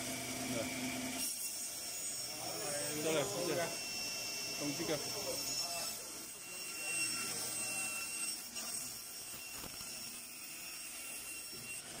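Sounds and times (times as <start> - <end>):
machine motor whining: 2.2 - 12.0.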